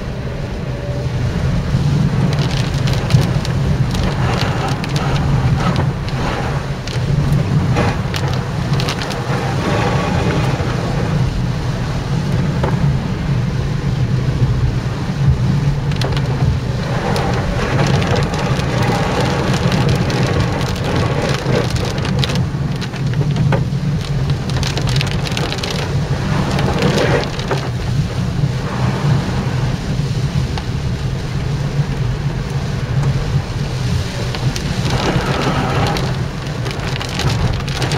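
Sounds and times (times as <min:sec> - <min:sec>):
heavy rain: 0:00.0 - 0:37.9
wind low rumble: 0:00.0 - 0:37.9
rain patters and ticks: 0:01.1 - 0:37.9.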